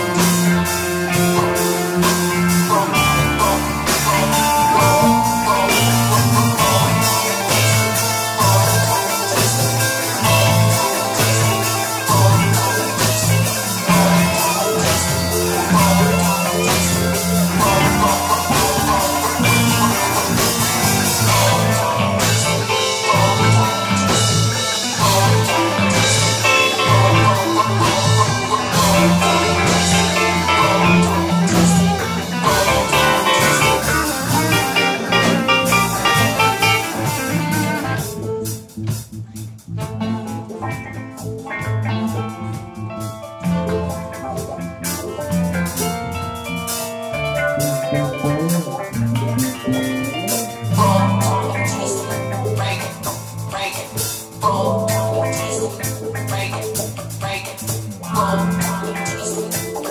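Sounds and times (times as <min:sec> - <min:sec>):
held bass notes: 0:00.0 - 0:59.9
instrumental band jam: 0:00.0 - 0:59.9.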